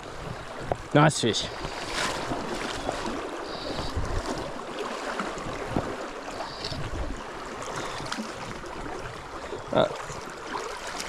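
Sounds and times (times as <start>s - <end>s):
wind buffeting microphone: 0.0s - 4.6s, 5.2s - 10.6s.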